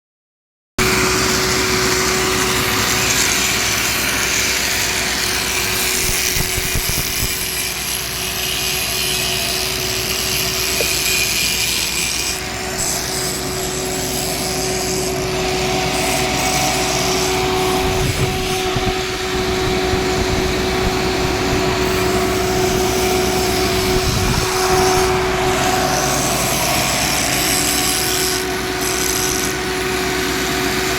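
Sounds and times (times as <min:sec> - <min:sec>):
electric motor humming: 0:00.8 - 0:30.9
rough scratchy noise: 0:02.0 - 0:29.7.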